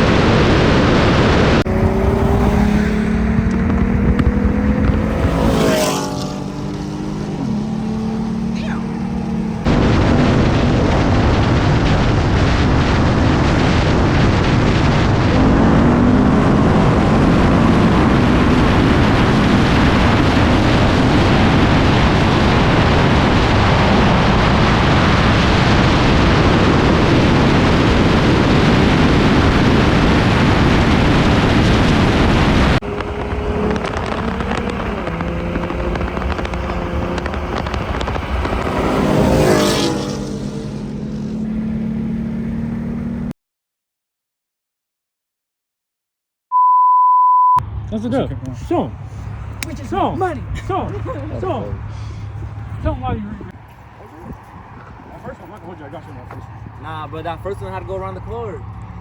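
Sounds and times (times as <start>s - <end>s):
car engine humming: 0.0s - 43.3s, 47.6s - 59.0s
wind and road noise roaring: 0.0s - 43.3s, 47.6s - 59.0s.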